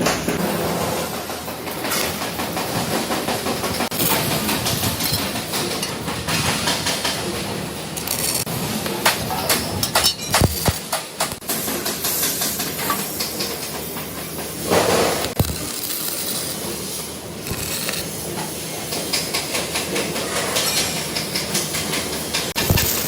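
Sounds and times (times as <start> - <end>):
workshop machinery hissing: 0.0 - 23.0.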